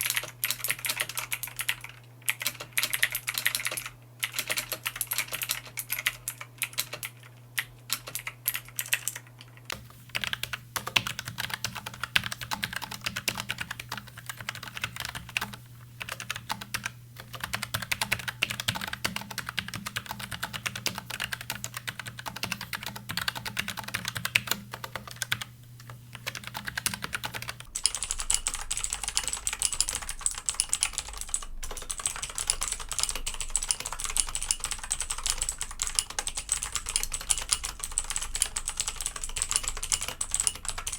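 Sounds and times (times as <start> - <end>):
rapid typing on mechanical keyboards: 0.0 - 25.5, 26.1 - 40.9.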